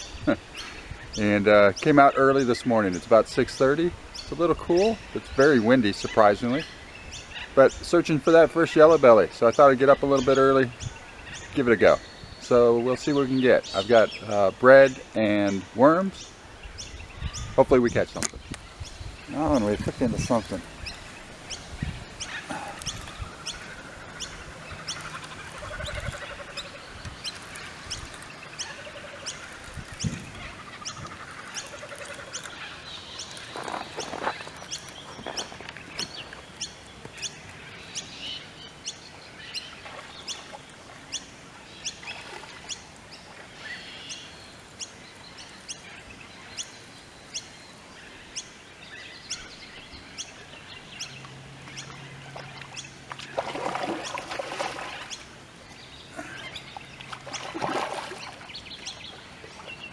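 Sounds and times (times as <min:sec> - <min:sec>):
birds singing and chirping: 0:00.0 - 0:59.9.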